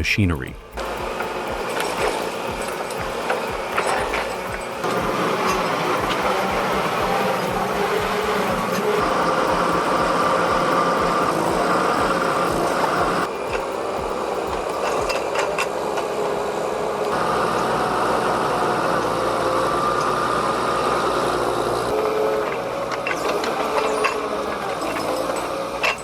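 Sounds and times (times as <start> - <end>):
heavy machine engine running: 0.7 - 24.0.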